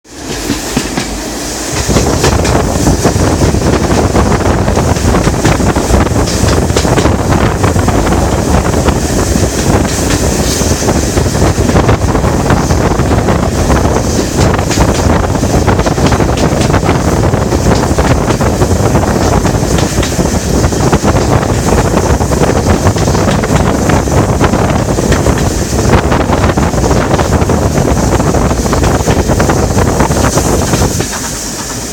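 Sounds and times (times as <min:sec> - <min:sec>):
train running: 0:00.0 - 0:31.9
wind buffeting microphone: 0:00.2 - 0:31.9.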